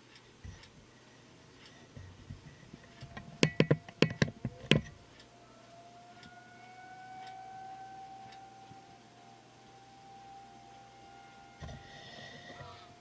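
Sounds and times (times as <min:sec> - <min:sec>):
faint outdoor warning siren: 0:02.0 - 0:13.0.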